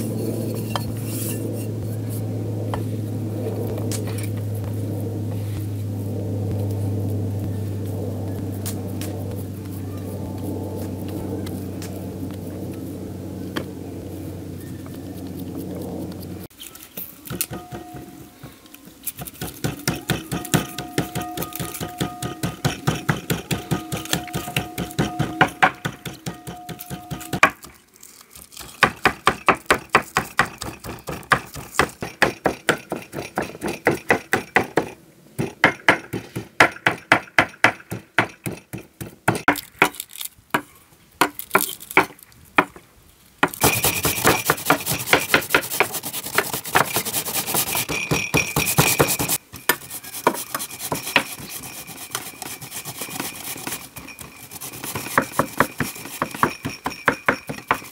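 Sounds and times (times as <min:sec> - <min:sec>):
continuous scraping: 0:00.0 - 0:36.9, 0:43.2 - 0:57.9.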